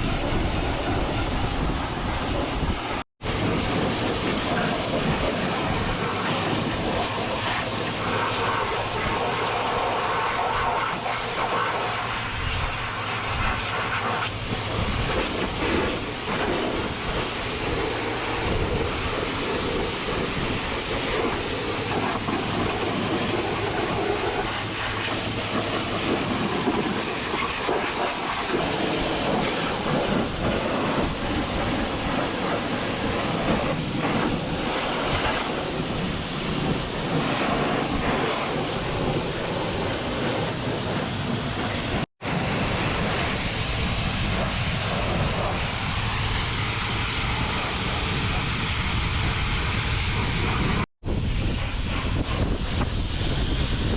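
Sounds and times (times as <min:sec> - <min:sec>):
pressure washer spraying water: 0:00.0 - 0:53.9.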